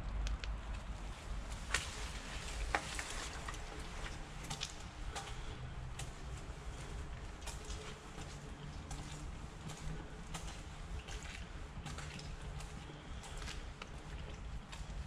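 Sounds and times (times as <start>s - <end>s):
steady low rumble: 0.0s - 15.0s
footsteps splashing in water: 1.2s - 15.0s.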